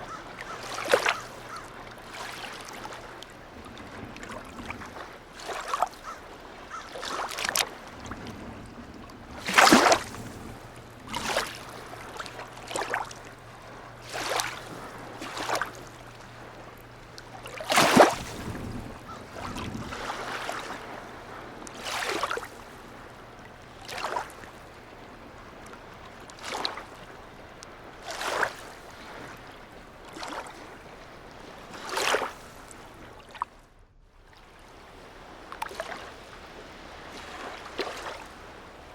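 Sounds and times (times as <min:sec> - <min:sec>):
waves lapping against quay: 0:00.0 - 0:38.9.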